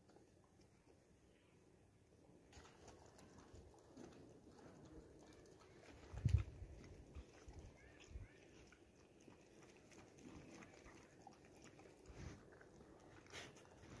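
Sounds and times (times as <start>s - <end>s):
dog lapping water: 2.6s - 14.0s.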